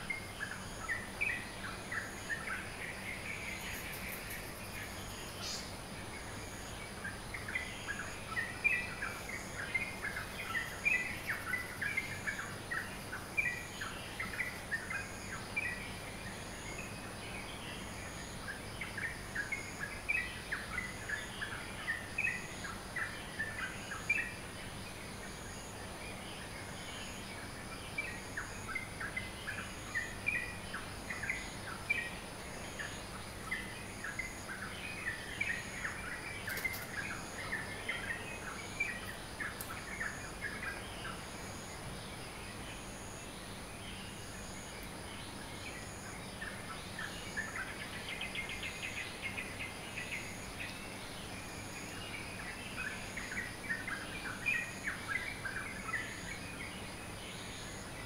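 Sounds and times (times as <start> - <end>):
birds chirping and twittering: 0.0 - 58.0
faint steady high whine: 0.0 - 58.0.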